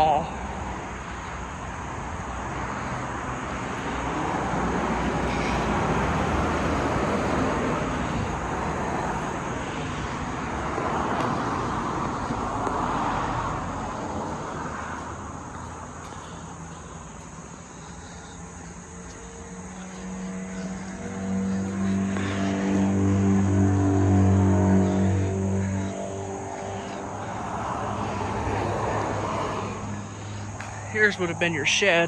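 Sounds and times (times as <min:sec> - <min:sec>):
low engine drone: 0:00.2 - 0:32.0
passing vehicle rushing: 0:01.6 - 0:32.0.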